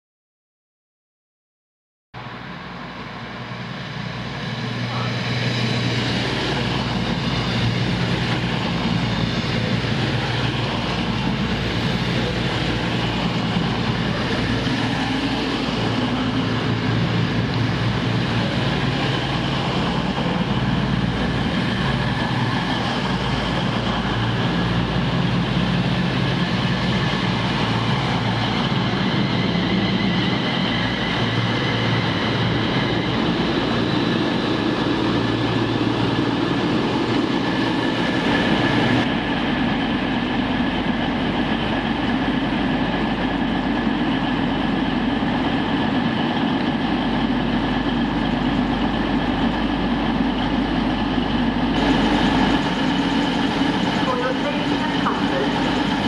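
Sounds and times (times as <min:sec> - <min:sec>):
diesel train engine hum: 0:02.2 - 0:56.0
electric train passing: 0:02.2 - 0:56.0
rail and wheel noise: 0:02.2 - 0:56.0.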